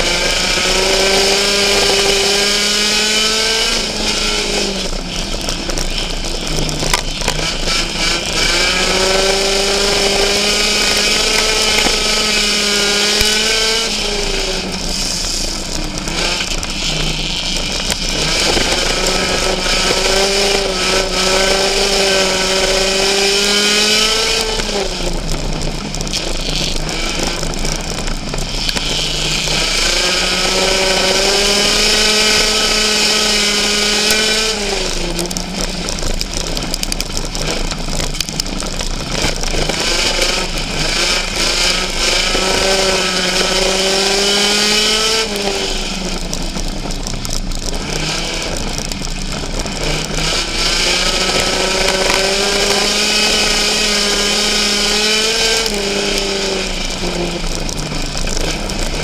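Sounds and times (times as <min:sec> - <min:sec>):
race car engine revving: 0:00.0 - 0:59.0
wind and tyre noise: 0:00.0 - 0:59.0.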